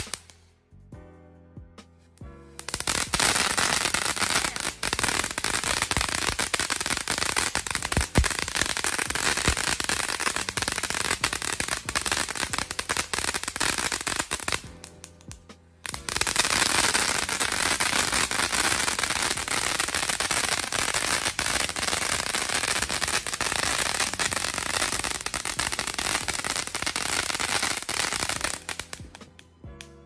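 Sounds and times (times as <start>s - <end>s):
firework fountain crackling hiss: 0.0s - 0.3s, 2.6s - 14.7s, 15.8s - 29.0s.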